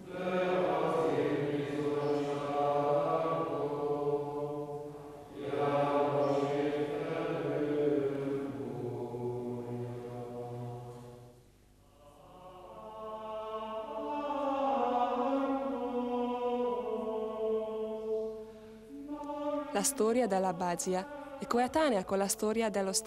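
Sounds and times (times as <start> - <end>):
men singing plainchant: 0.0 - 11.2, 12.0 - 22.2.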